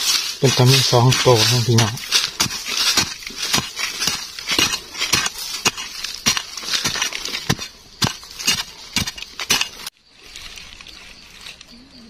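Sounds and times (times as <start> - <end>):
digging tool chopping earth: 0.0 - 9.9.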